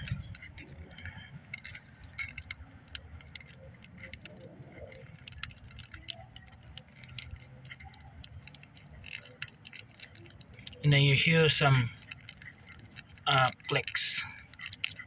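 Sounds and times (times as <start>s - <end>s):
low background rumble: 0.0s - 14.9s
small plastic clicks: 0.0s - 15.0s.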